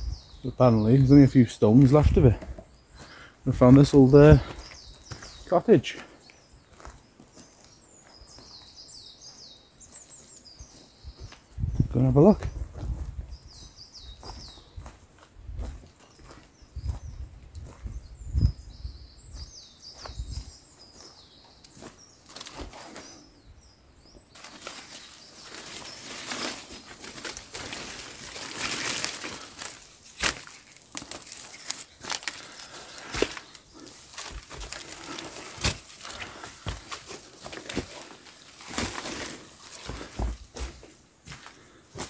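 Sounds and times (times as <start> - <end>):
footsteps on rough ground: 0.1 - 23.3, 24.1 - 42.0.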